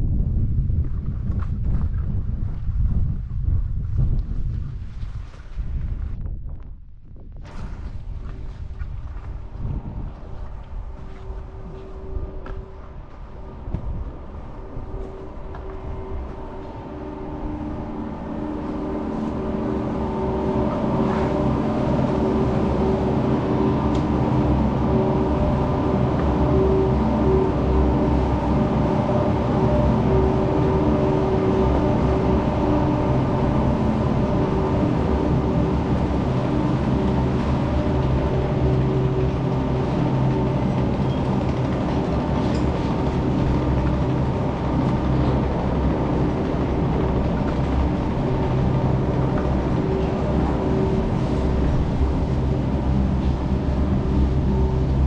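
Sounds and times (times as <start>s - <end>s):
chairlift machinery humming: 7.6s - 55.0s.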